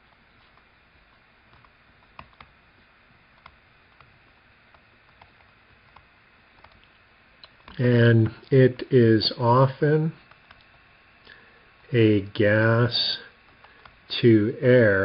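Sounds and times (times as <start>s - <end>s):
quiet room hiss: 0.0s - 15.0s.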